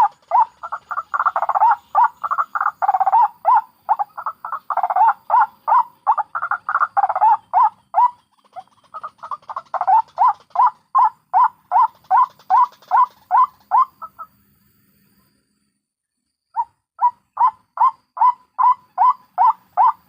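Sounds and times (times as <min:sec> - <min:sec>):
waterhen calling: 0:00.0 - 0:14.3, 0:16.6 - 0:20.0.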